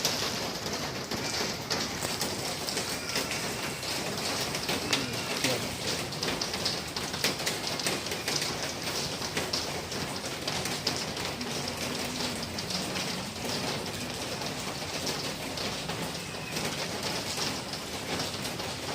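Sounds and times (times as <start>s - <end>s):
rain on a hard surface: 0.0s - 18.9s
raindrops ticking close by: 0.0s - 18.9s.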